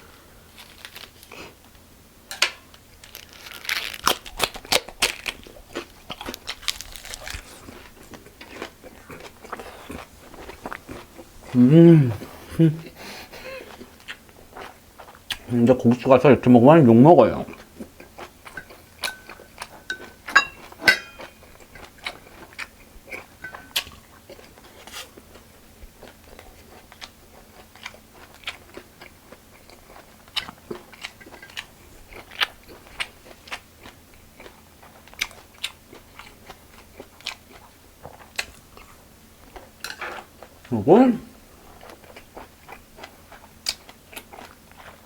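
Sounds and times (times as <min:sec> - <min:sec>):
crunchy chewing: 0:00.4 - 0:01.7, 0:03.0 - 0:15.6, 0:17.3 - 0:40.7, 0:41.4 - 0:45.0.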